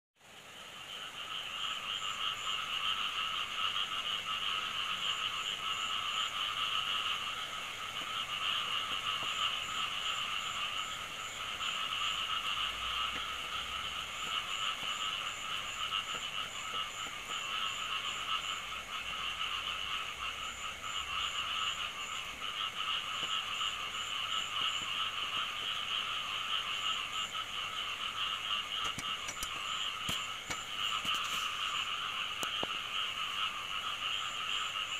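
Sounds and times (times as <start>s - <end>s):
rapidly pulsed frog call: 0.4s - 34.9s
chorus of frogs calling: 0.5s - 34.9s.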